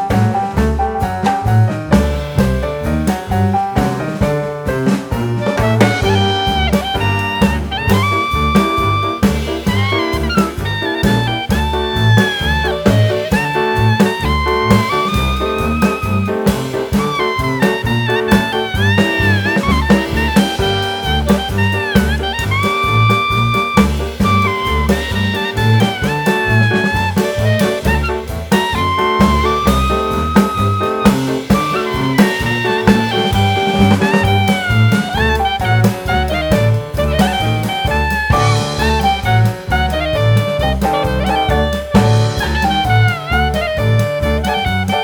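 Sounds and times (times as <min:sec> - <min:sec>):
upbeat jazz music: 0:00.0 - 0:45.0.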